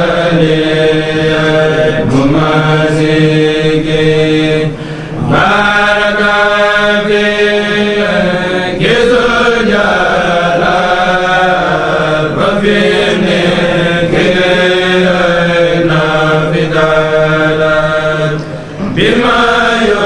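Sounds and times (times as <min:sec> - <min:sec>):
men chanting unaccompanied: 0:00.0 - 0:20.0.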